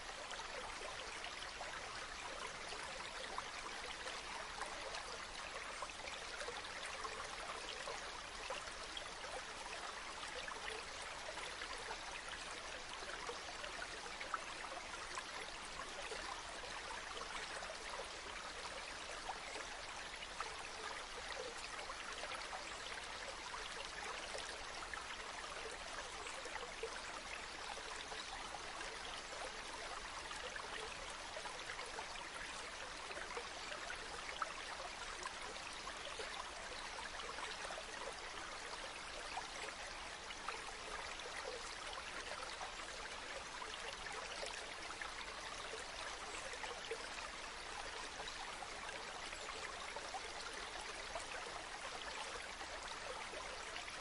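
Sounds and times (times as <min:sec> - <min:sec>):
stream running with splashing: 0:00.0 - 0:54.0.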